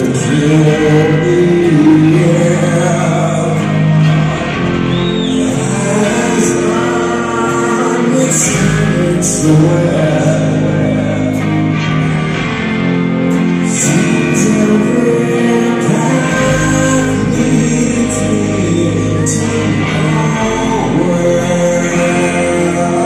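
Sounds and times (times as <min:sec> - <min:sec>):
man singing: 0:00.0 - 0:12.4, 0:13.2 - 0:23.0
live rock band playing: 0:00.0 - 0:23.0.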